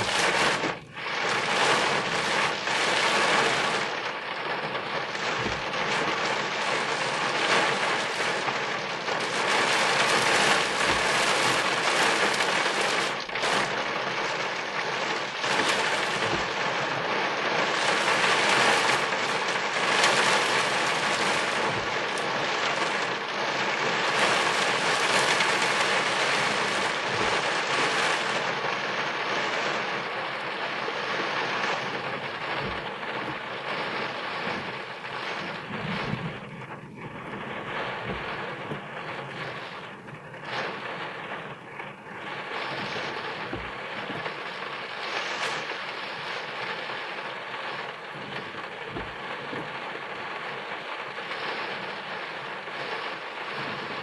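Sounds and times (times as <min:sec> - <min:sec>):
rain drumming on a car roof: 0:00.0 - 0:54.0.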